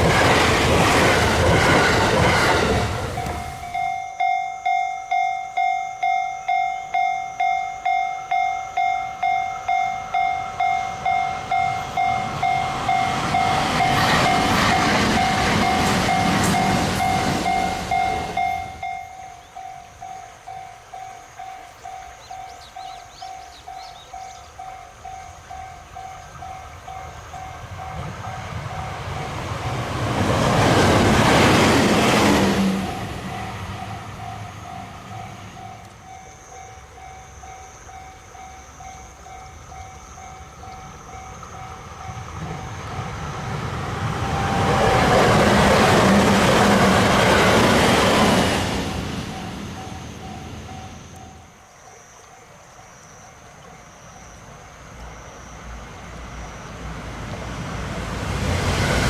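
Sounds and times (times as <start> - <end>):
level-crossing warning bell ringing: 0.0 - 51.7
train passing: 0.0 - 51.7, 53.5 - 59.0.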